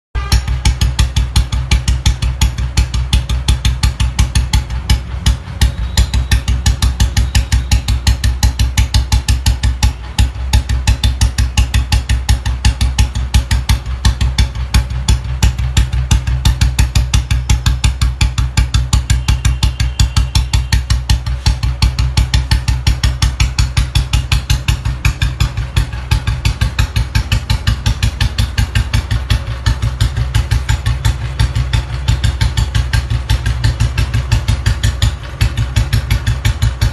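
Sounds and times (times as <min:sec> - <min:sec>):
motorcycle engine idling: 0:00.2 - 0:36.9.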